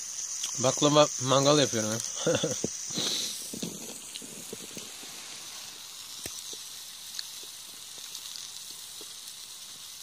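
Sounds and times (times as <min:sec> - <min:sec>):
syrup sizzling and bubbling: 0:00.0 - 0:10.0
small pops: 0:01.9 - 0:10.0.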